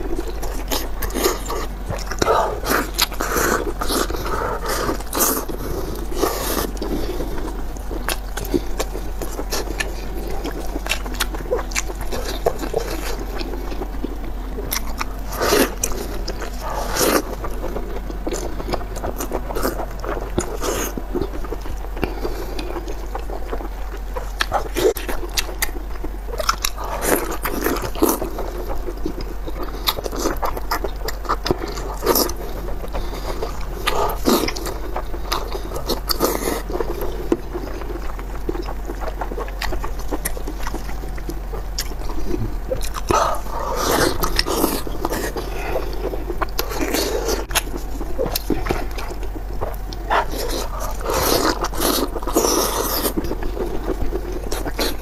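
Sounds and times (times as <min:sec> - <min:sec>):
low electrical hum: 0:00.0 - 0:55.0
wet chewing and slurping: 0:00.0 - 0:55.0.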